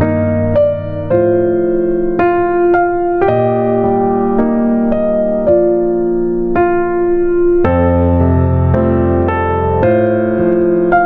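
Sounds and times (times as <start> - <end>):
keyboard notes held: 0.0 - 11.0.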